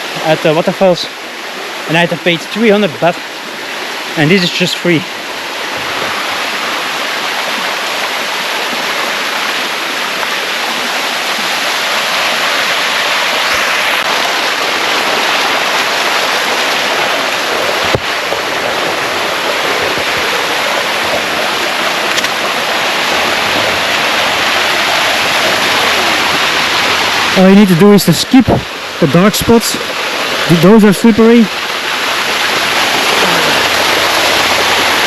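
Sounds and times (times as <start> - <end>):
waterfall rushing over rocks: 0.0 - 35.0.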